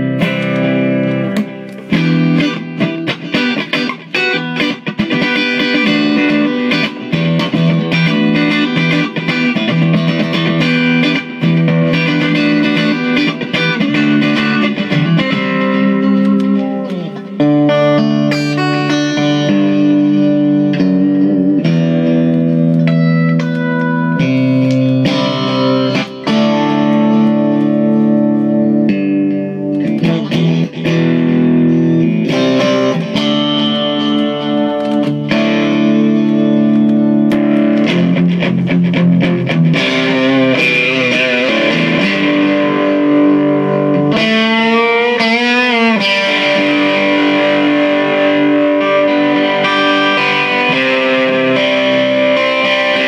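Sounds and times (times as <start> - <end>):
overdriven electric guitar: 0.0 - 53.0.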